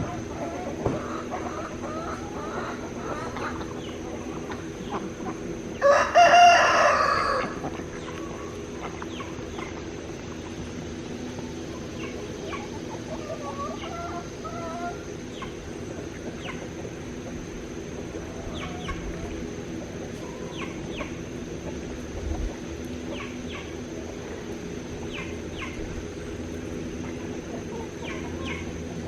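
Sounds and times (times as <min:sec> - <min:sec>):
chickens clucking: 0:00.0 - 0:29.0
steady low hum: 0:00.0 - 0:29.0.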